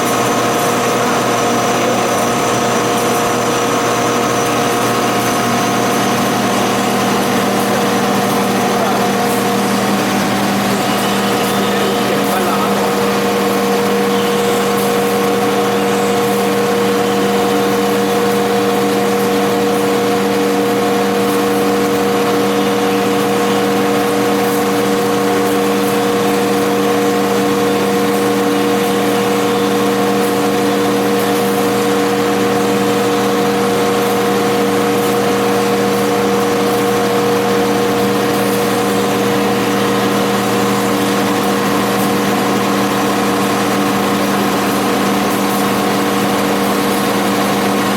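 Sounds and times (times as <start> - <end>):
drilling machine humming: 0.0 - 47.9.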